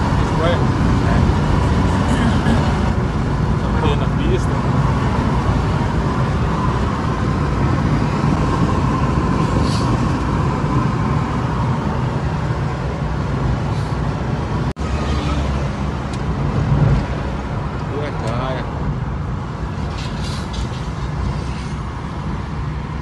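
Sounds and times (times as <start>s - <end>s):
car cabin road and engine noise: 0.0s - 23.0s.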